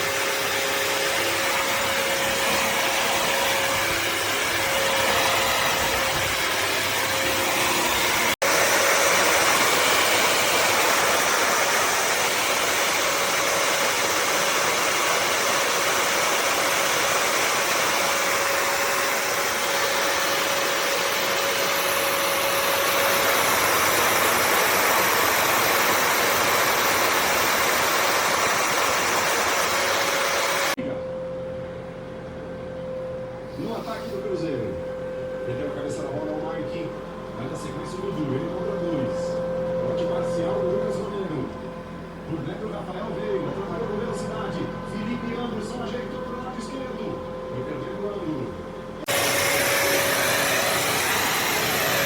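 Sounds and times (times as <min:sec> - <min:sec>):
vacuum motor rushing: 0:00.0 - 0:30.8, 0:33.6 - 0:52.0.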